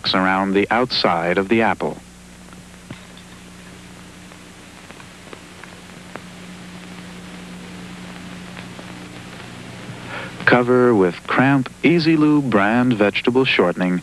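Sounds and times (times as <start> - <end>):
low electrical hum: 0.0 - 14.0
soundtrack hiss: 0.0 - 14.0.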